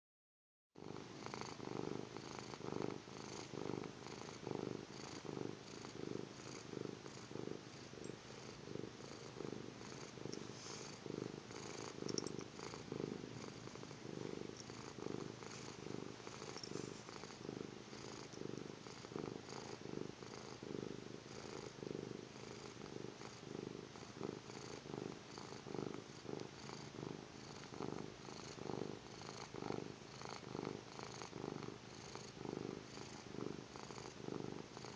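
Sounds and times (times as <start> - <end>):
cat snoring: 0.8 - 34.9.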